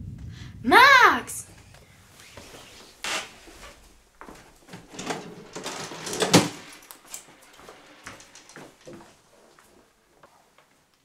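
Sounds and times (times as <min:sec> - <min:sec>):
rustling handling noise: 0:01.7 - 0:10.9.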